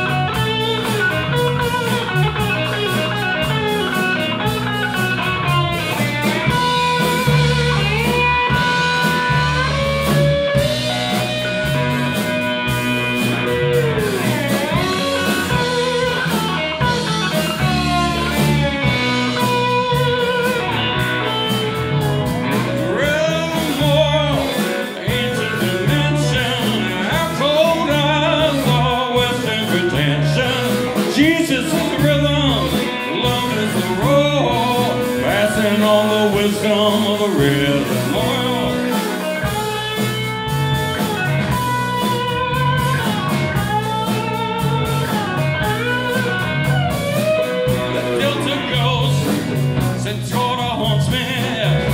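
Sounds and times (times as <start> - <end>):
bass guitar: 0.0 - 51.9
drum kit: 0.0 - 51.9
electric slide guitar: 0.0 - 51.9
keyboards: 0.0 - 51.9.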